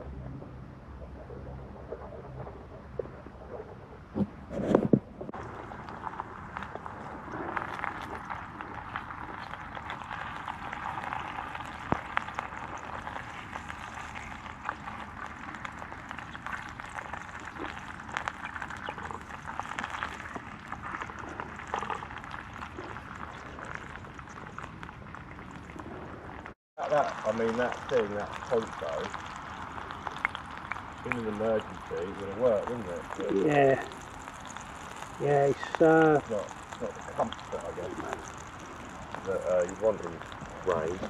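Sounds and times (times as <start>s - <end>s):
food sizzling over campfire: 5.3s - 41.0s.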